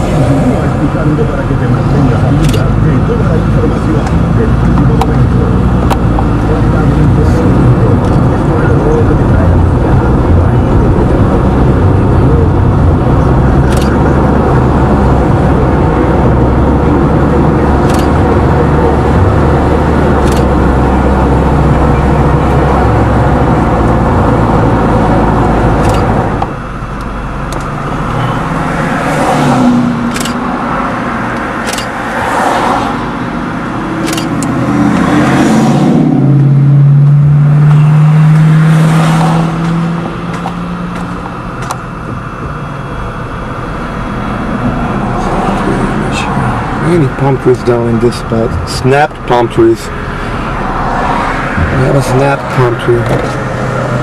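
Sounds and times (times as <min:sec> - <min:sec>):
car engine accelerating: 0:00.0 - 0:54.0
car road and engine noise: 0:00.0 - 0:54.0.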